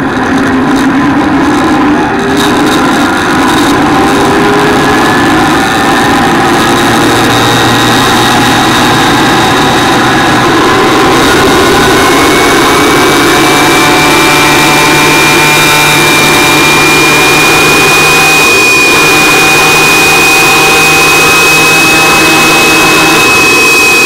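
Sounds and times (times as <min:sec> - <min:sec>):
motorbike engine high whine: 0:00.0 - 0:24.0
whine rising in pitch: 0:00.0 - 0:24.0.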